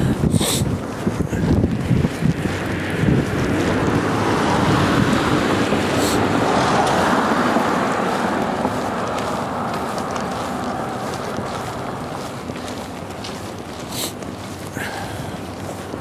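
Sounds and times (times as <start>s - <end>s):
car tyres hissing on wet road: 0.2s - 0.7s, 2.0s - 12.4s, 13.8s - 16.0s.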